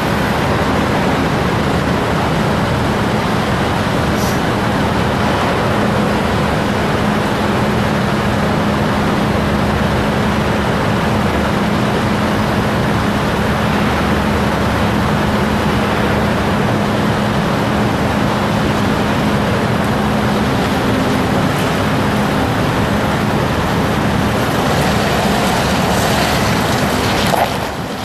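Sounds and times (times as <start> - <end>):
diesel engine running: 0.0 - 28.0
constant droning tone: 4.8 - 28.0.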